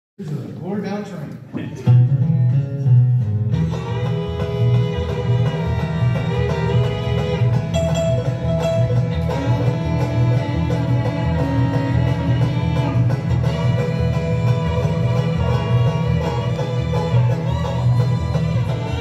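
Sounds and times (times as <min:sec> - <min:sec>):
guitar: 0:01.3 - 0:19.0
upright bass: 0:01.5 - 0:19.0
banjo: 0:01.8 - 0:19.0
fiddle: 0:03.5 - 0:19.0.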